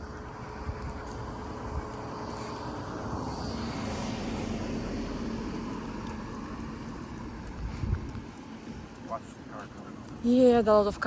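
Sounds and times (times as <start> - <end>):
motor vehicle passing: 0.0 - 11.0.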